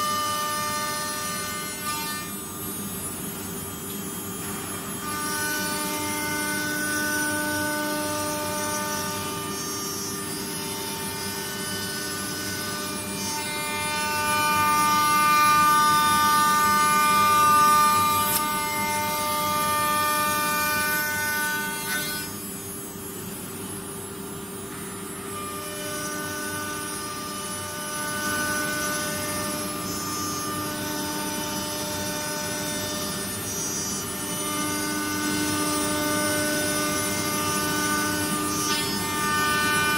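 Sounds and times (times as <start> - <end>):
router spindle motor whine: 0.0 - 23.6, 25.2 - 39.9.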